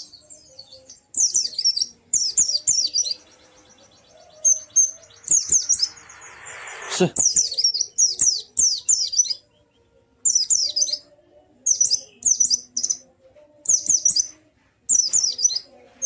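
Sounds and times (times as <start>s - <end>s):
bird singing high chirps: 0.0s - 15.7s.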